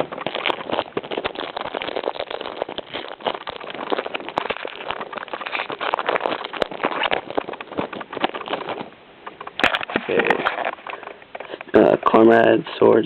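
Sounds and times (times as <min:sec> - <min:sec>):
foil wrapper crinkling and tearing: 0:00.0 - 0:12.3.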